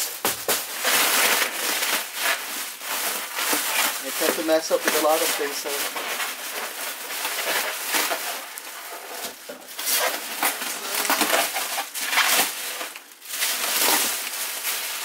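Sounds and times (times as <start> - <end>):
packing wrap rustling and crinkling: 0.0 - 15.0.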